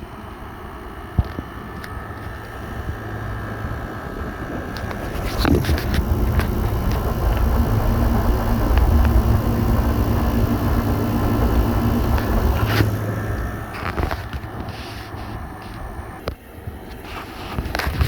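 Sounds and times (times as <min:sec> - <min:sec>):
air conditioner hum: 0:00.0 - 0:18.0.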